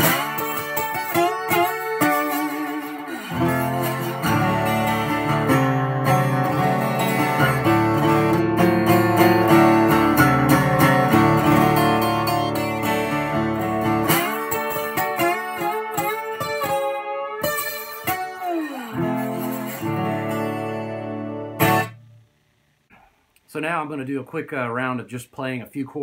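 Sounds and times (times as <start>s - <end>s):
twelve-string slide guitar fingerpicking: 0.0s - 22.1s.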